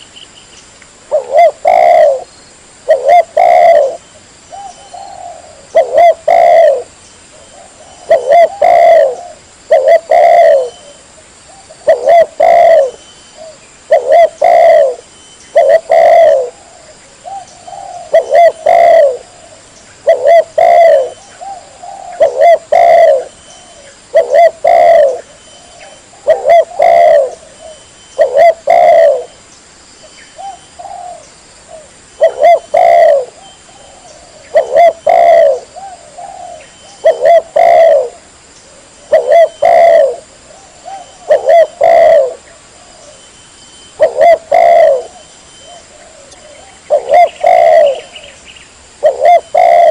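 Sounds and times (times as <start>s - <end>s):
dove cooing: 1.0s - 29.4s, 30.4s - 43.2s, 43.9s - 48.4s, 49.0s - 49.9s.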